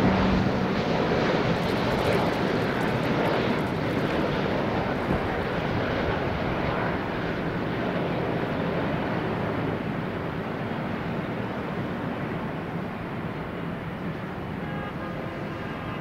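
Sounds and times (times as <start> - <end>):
jet engine rumble: 0.0 - 15.9.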